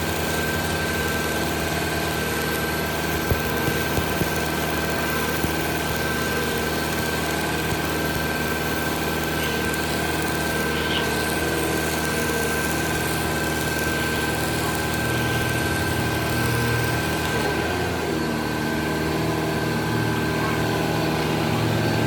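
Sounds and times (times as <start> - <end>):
engine running steadily: 0.0 - 22.0
high whine: 0.0 - 22.0.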